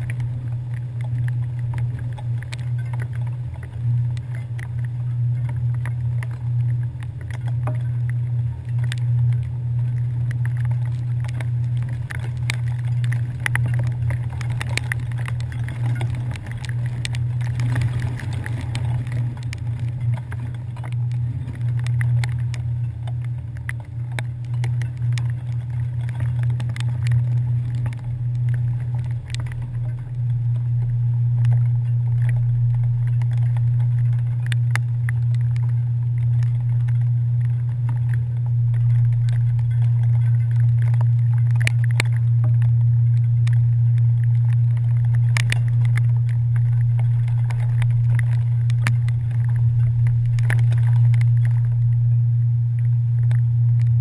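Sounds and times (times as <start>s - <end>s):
ferry engines droning: 0.0s - 54.0s
small ticks: 0.0s - 54.0s.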